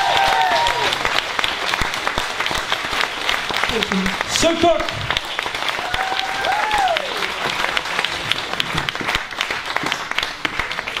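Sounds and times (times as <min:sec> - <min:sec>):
audience applauding: 0:00.0 - 0:11.0
crowd cheering: 0:00.0 - 0:11.0.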